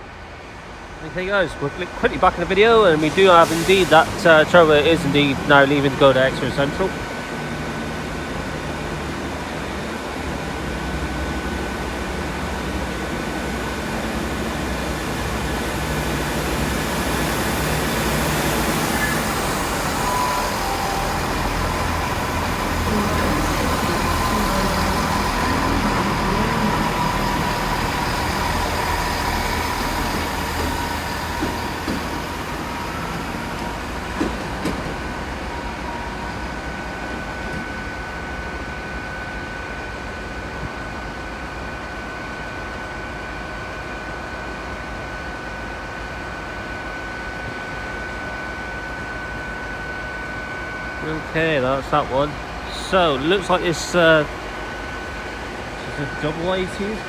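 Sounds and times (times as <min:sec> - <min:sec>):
diesel train engine rumble: 0:00.0 - 0:57.0.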